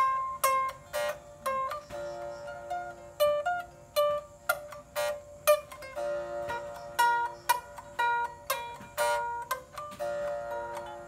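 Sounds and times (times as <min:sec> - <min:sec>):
plucked lute melody: 0:00.0 - 0:11.0.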